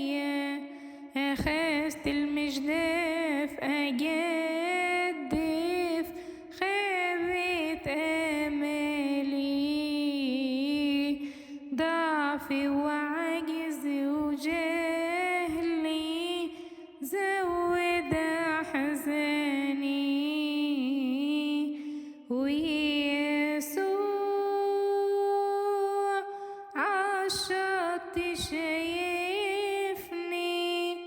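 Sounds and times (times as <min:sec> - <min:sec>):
woman singing a hymn: 0:00.0 - 0:31.0.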